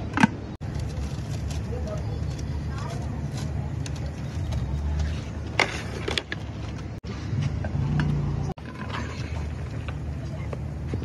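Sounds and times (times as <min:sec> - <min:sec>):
street background rumble: 0:00.0 - 0:11.0.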